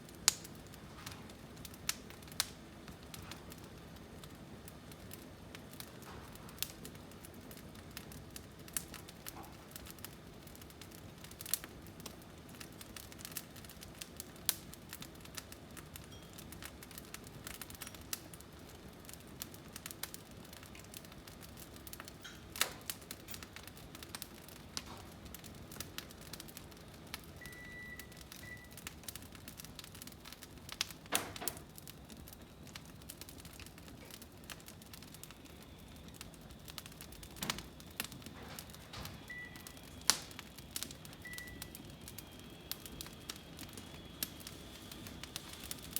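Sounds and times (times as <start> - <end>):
firewood crackling in fireplace: 0.0 - 45.9
sharp pops of burning wood: 0.0 - 45.9.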